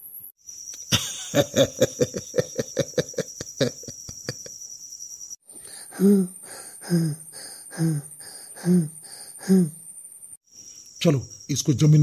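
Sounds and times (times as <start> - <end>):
high cricket-like chirring: 0.0 - 12.0.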